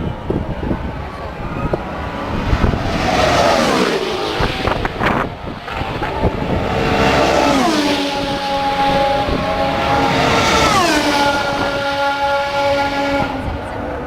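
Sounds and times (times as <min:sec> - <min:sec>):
racing cars passing at speed: 0:00.0 - 0:14.0.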